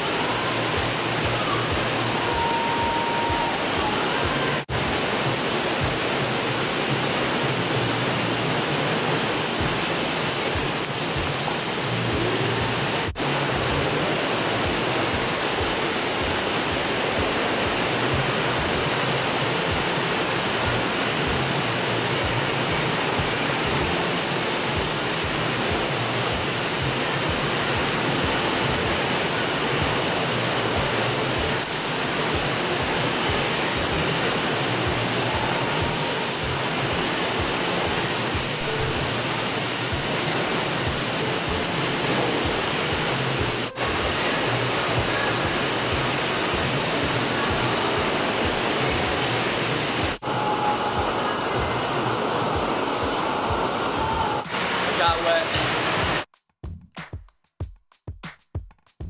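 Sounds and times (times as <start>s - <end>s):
water rushing over wave machine: 0.0s - 56.3s.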